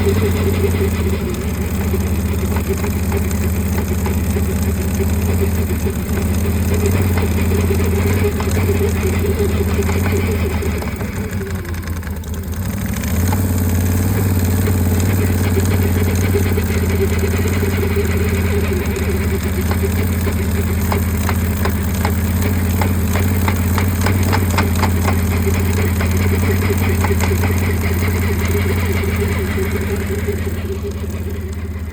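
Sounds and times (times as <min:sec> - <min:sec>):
atv engine running at low revs: 0:00.0 - 0:31.9.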